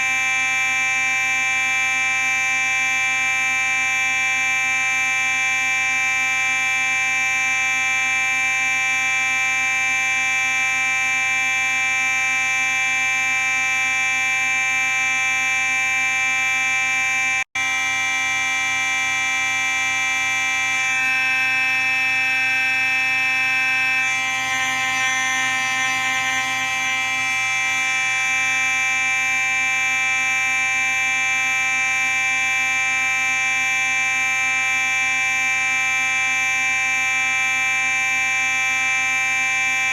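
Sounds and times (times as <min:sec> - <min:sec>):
fire alarm horn buzzing: 0:00.0 - 0:39.9.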